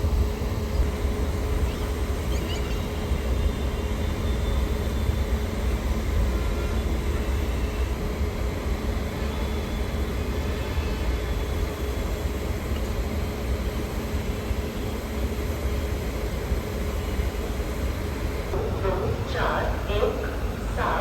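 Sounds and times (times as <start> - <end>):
train rumbling: 0.0 - 14.6, 15.5 - 21.0
constant hum: 0.0 - 21.0.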